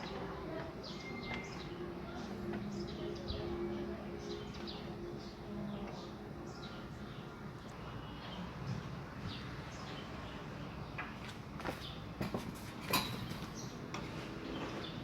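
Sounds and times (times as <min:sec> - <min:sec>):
small birds chirping: 0:00.0 - 0:12.2, 0:13.1 - 0:15.0.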